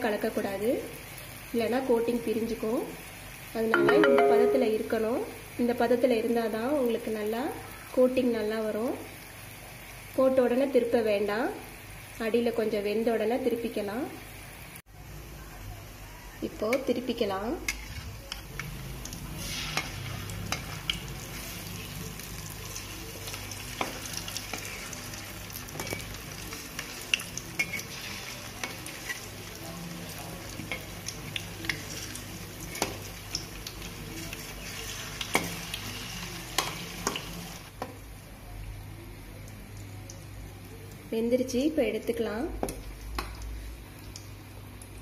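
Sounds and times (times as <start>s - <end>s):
deep-frying sizzle: 0.0s - 45.0s.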